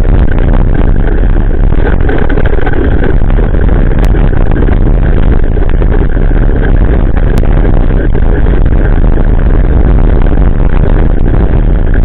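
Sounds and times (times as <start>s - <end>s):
bicycle tyres rumbling on gravel: 0.0s - 12.0s
wind buffeting microphone: 0.0s - 12.0s.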